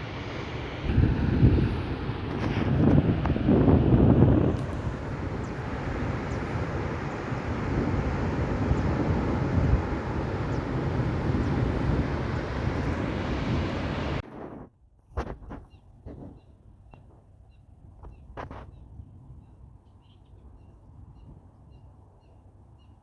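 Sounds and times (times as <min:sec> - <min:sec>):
wind noise on microphone: 0:00.0 - 0:16.6, 0:17.8 - 0:19.8.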